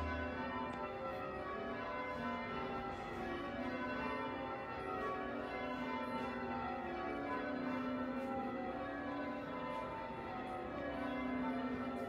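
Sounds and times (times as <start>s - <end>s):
church bells ringing: 0.0s - 12.0s.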